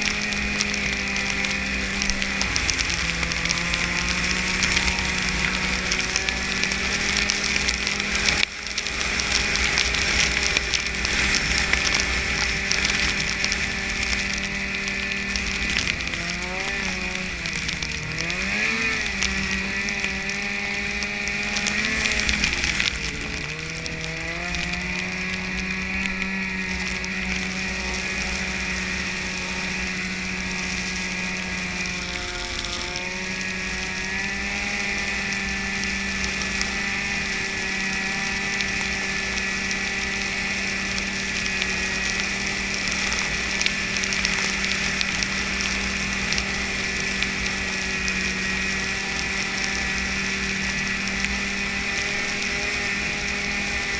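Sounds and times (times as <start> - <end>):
snowmobile engine running: 0.0 - 53.9.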